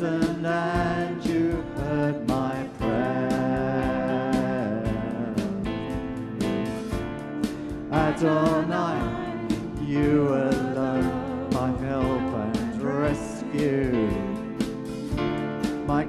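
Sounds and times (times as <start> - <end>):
people singing: 0.0 - 15.2
acoustic guitar: 0.0 - 16.0
bass guitar: 0.0 - 16.0
drum kit beat: 0.0 - 16.0.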